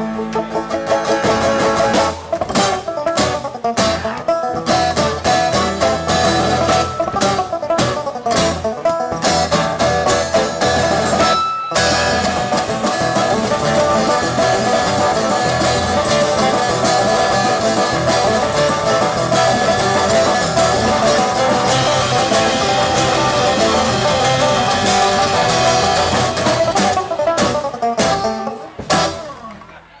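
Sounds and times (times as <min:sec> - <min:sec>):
bluegrass string band playing: 0:00.0 - 0:29.7.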